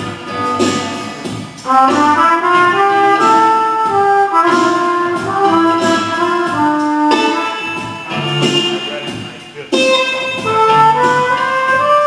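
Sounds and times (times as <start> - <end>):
trumpet playing jazzy melody: 0.0 - 12.0.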